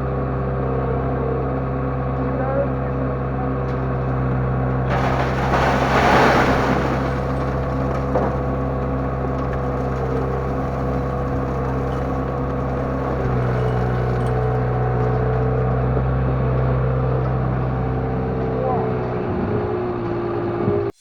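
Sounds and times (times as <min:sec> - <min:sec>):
loader engine running: 0:00.0 - 0:21.0.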